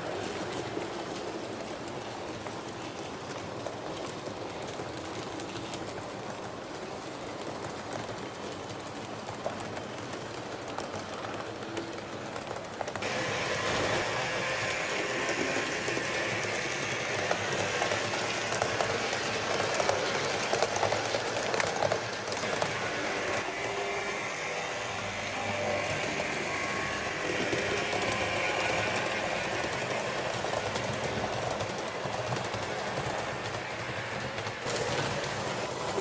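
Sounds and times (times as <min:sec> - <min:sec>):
model train whirring: 0:00.0 - 0:36.0
wheels clicking on rails: 0:00.0 - 0:36.0.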